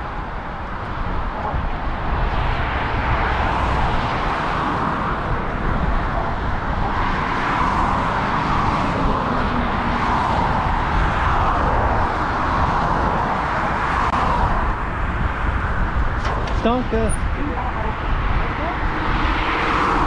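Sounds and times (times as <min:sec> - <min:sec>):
background traffic: 0:00.0 - 0:20.0
wind and road noise: 0:00.0 - 0:20.0.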